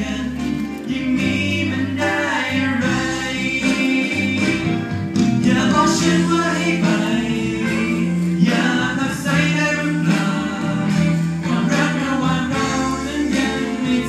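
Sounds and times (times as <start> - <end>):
backing music: 0.0 - 14.0
man and woman singing duet: 0.0 - 14.0.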